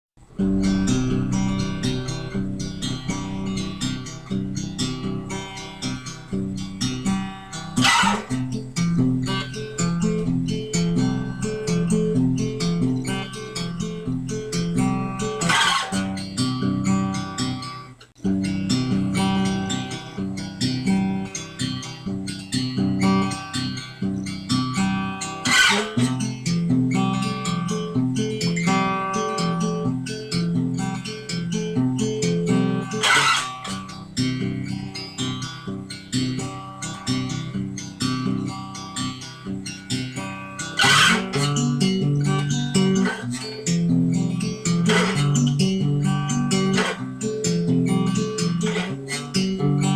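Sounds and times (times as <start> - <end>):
plucked and strummed guitar: 0.2 - 49.9.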